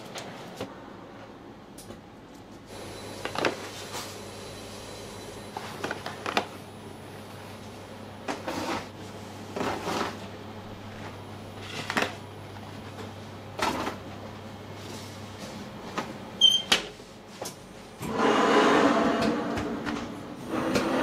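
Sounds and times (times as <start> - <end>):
kitchen equipment hum: 0.0 - 21.0.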